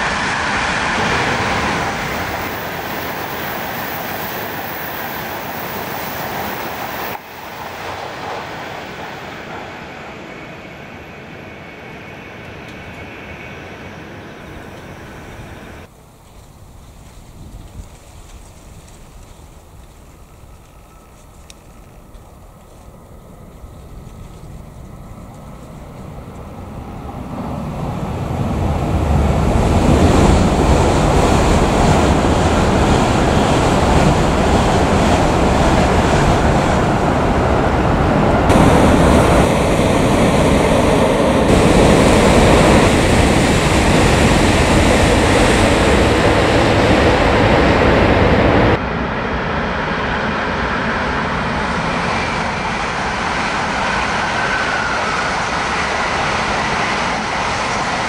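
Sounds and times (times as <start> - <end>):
high-speed train passing: 0.0 - 58.0.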